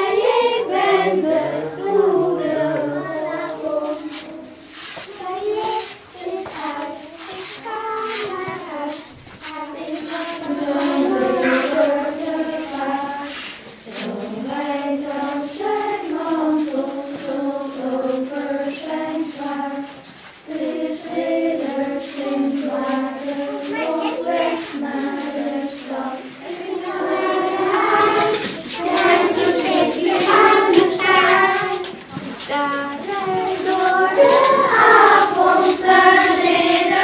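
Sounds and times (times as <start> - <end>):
children singing in unison: 0.0 - 37.0.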